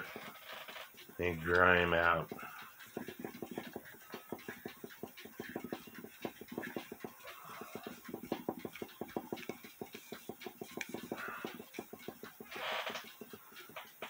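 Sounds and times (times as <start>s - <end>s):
cloth rubbing on metal: 0.0s - 14.0s.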